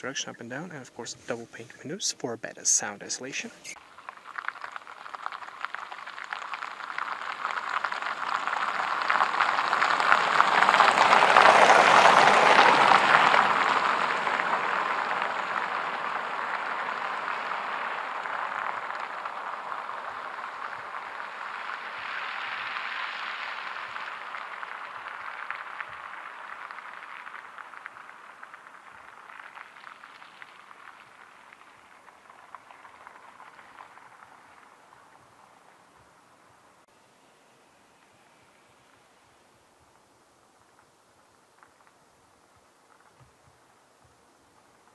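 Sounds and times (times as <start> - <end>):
car tyres hissing on wet road: 3.7 - 44.9.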